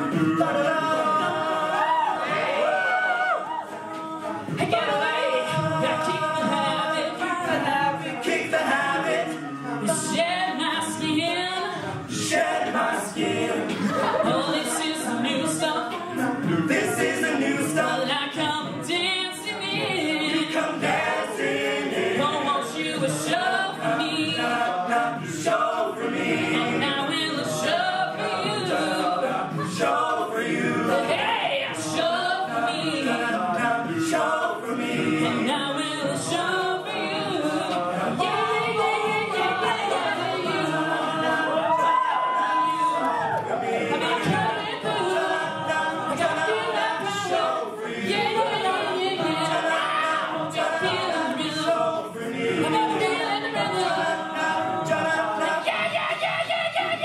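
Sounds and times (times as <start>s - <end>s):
male a cappella group singing: 0.0s - 57.0s.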